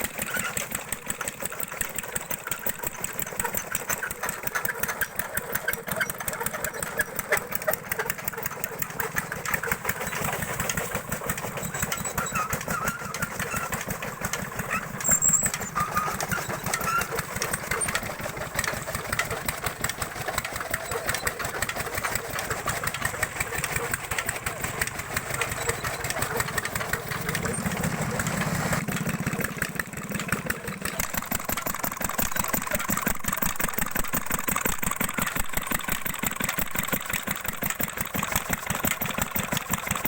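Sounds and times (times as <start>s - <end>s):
machine engine running: 0.0s - 40.0s.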